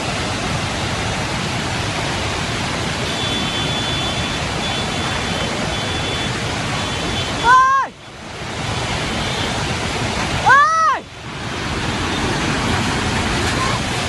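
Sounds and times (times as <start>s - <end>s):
rushing storm water: 0.0s - 14.0s.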